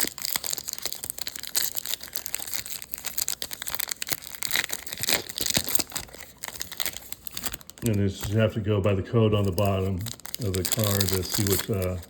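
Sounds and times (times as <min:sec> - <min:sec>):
card wrapper crinkling and rustling: 0:00.0 - 0:12.0.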